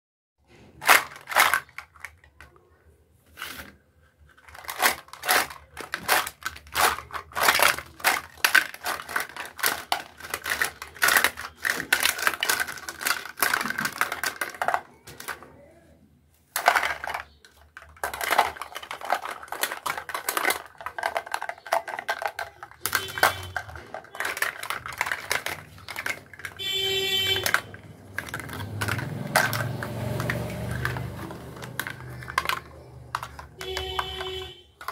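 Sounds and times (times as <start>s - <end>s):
plastic toys clacking together: 0.5s - 15.7s, 16.5s - 34.9s.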